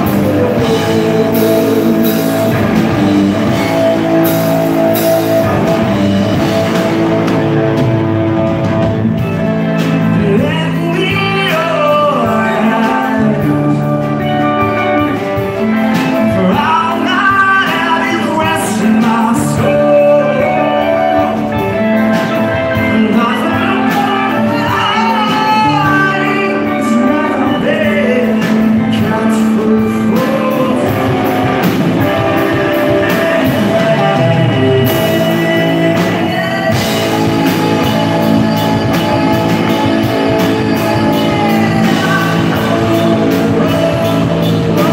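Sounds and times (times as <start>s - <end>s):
drums: 0.0s - 44.9s
electric guitar: 0.0s - 44.9s
person singing: 0.0s - 44.9s.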